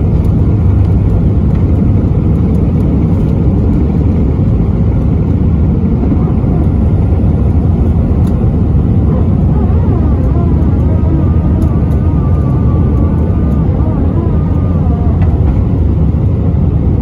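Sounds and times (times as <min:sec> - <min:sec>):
jet engines deep rumble: 0:00.0 - 0:17.0.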